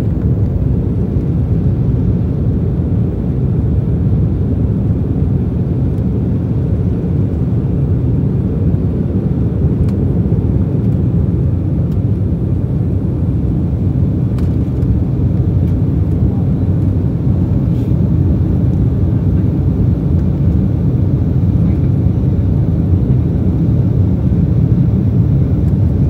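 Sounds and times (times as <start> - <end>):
jet engines and airflow rumble: 0.0 - 26.0.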